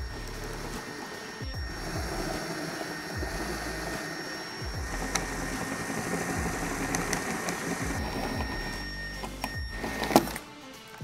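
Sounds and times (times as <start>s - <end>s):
drill bit clicks: 0.0s - 10.5s
cordless drill whining: 0.0s - 11.0s.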